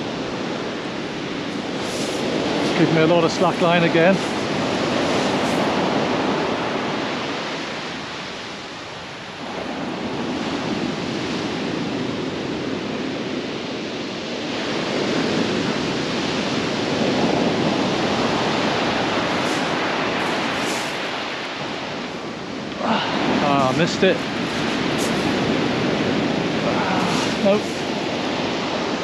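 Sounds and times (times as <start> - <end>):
surf on shingle beach: 0.0 - 29.0
wind buffeting microphone: 0.0 - 29.0.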